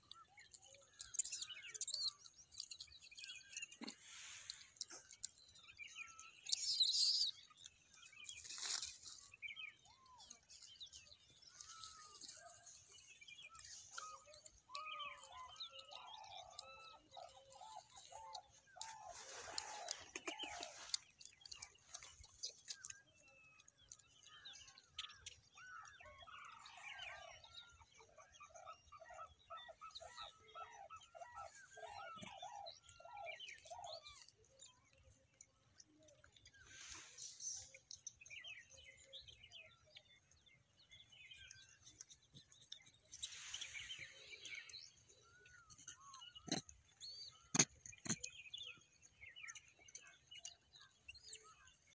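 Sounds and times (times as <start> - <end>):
birds chirping and calling: 0.0 - 51.9.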